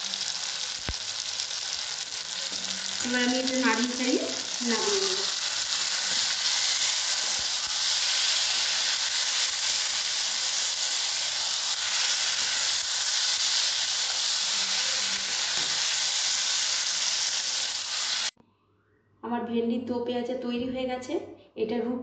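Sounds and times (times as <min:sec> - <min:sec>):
vegetables sizzling in a pan: 0:00.0 - 0:18.3.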